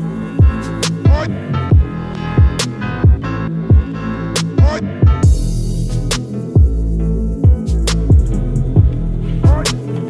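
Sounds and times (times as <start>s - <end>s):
background music with kick drums: 0.0s - 10.0s.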